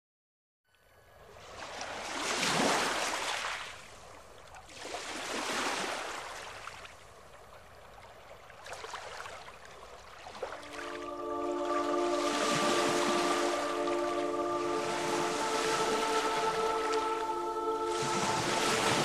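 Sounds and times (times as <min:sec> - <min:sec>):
small waves washing ashore: 0:01.4 - 0:19.0.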